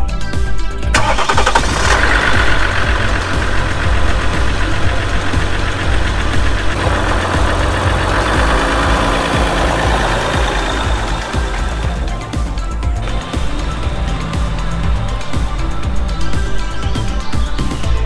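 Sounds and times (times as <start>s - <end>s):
diesel engine idling: 0.9s - 18.0s.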